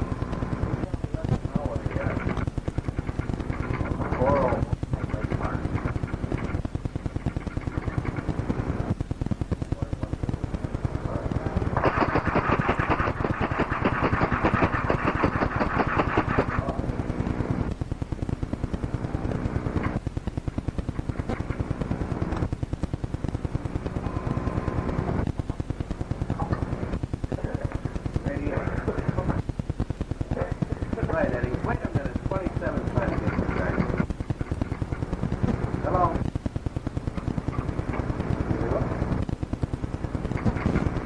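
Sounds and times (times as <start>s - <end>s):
fast even clicking: 0.0s - 41.0s
muffled unclear sound: 0.0s - 41.0s.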